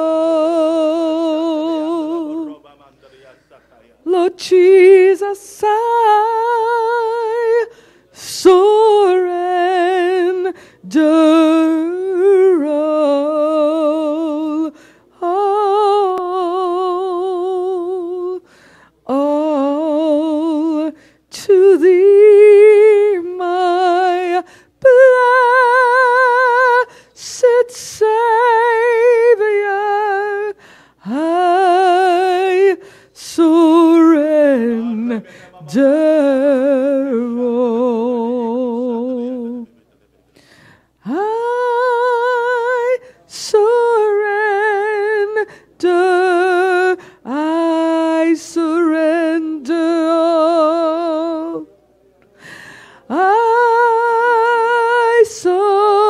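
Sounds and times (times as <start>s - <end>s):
woman singing unaccompanied: 0.0s - 2.6s, 4.0s - 39.7s, 41.0s - 51.7s, 53.1s - 56.0s.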